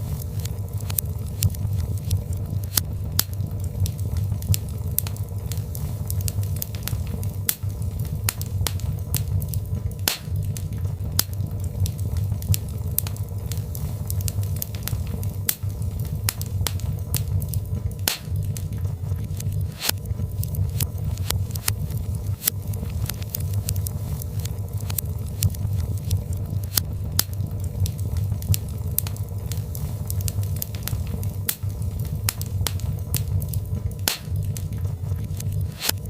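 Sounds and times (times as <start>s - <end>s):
logs crackling in a fireplace: 0.0s - 36.0s
low fire rumble: 0.0s - 36.0s.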